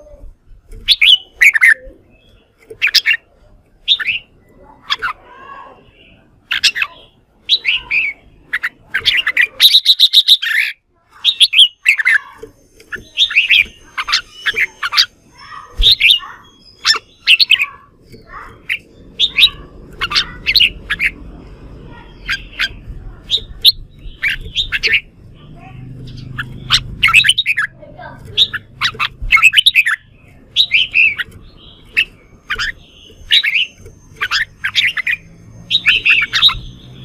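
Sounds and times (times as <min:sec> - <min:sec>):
bird chattering song: 0:00.0 - 0:37.0.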